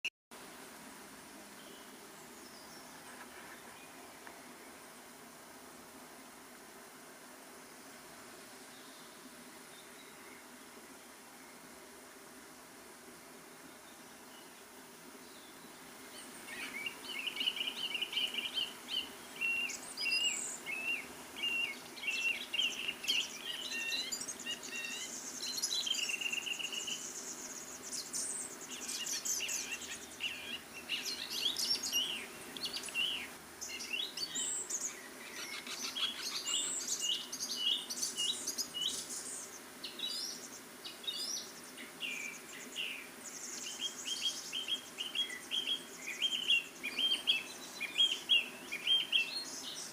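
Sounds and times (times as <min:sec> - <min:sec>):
songbirds chirping: 0:00.6 - 0:49.9.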